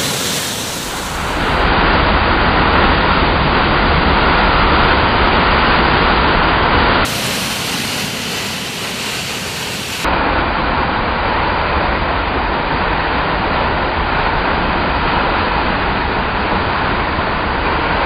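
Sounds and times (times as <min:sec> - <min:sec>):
waterfall rushing over boulders: 0:00.0 - 0:18.0.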